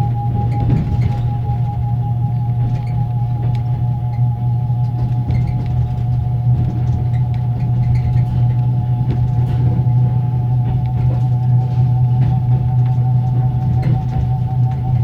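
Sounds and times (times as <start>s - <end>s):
generator whining: 0.0s - 15.0s
low rumble: 0.0s - 15.0s.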